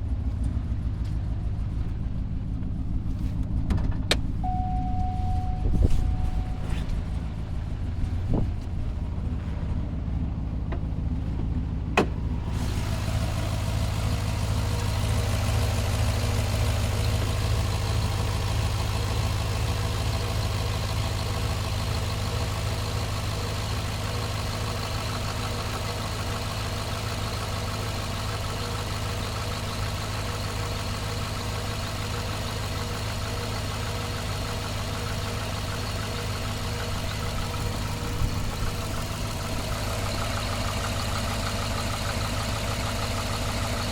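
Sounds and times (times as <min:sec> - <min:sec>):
car engine idling with misfire: 0:00.0 - 0:43.9.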